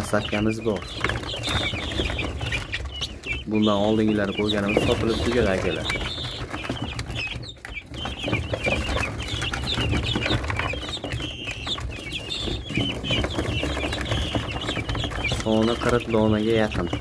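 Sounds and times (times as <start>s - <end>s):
young birds cheeping: 0.0s - 17.0s.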